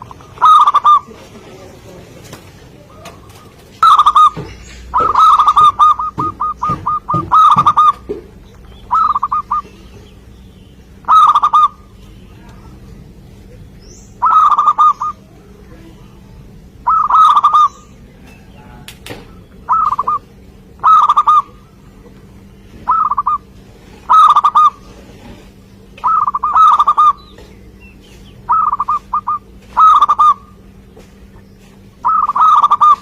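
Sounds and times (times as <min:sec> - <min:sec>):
dove cooing: 0:00.0 - 0:10.3, 0:10.9 - 0:33.0.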